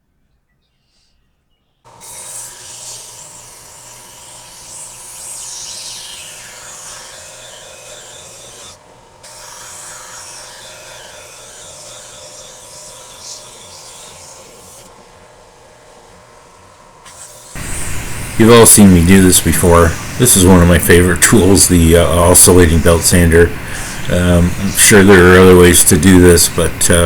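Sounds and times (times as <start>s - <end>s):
belt sander grinding wood: 1.9s - 27.0s.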